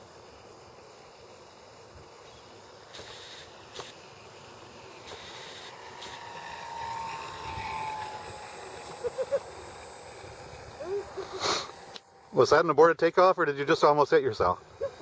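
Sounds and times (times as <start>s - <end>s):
model airplane motor whining: 0.0s - 15.0s.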